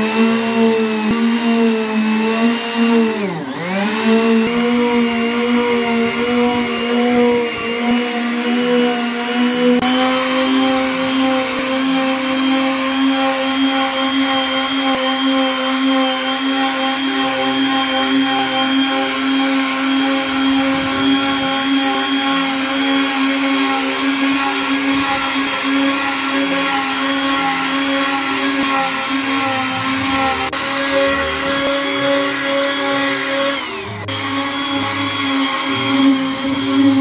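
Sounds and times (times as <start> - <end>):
electric sander running: 0.0 - 37.0.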